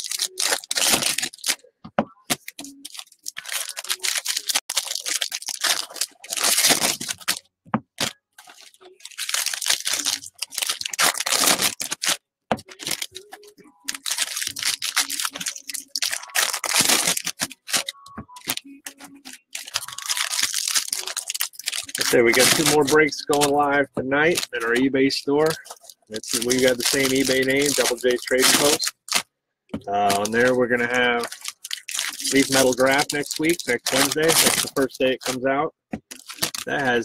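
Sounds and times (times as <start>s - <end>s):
cards rustling: 0.0s - 1.6s, 2.2s - 29.2s, 30.0s - 35.4s, 36.0s - 37.0s
foil wrappers tearing and crinkling: 0.0s - 1.6s, 2.3s - 7.4s, 8.0s - 29.3s, 30.1s - 35.4s, 36.1s - 37.0s.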